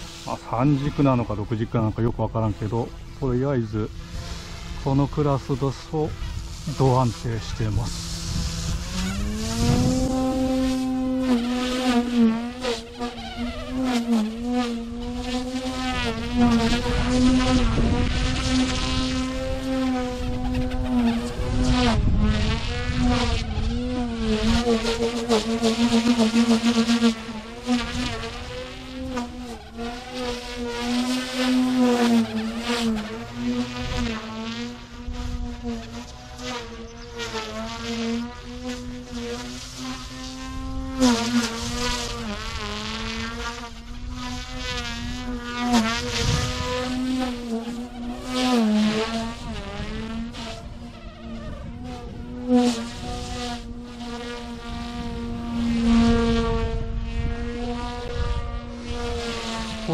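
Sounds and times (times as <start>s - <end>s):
rc helicopter buzzing whine: 0.0s - 59.9s.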